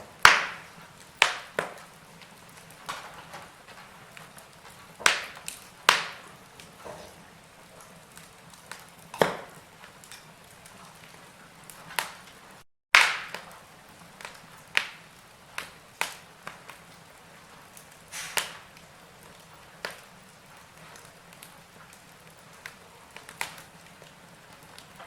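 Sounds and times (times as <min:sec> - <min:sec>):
sharp pops of fire: 0:00.0 - 0:25.0
wood fire crackling: 0:00.0 - 0:25.0.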